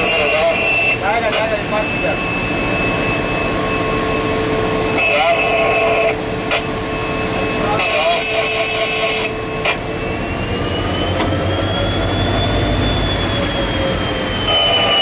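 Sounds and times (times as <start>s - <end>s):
diesel locomotive engine rumble: 0.0s - 15.0s
high whine rising in pitch: 0.0s - 15.0s.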